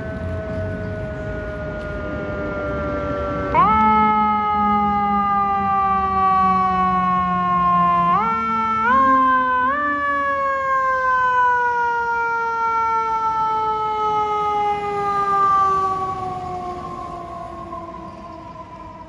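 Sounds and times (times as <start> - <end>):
mechanical siren wailing: 0.0 - 19.0.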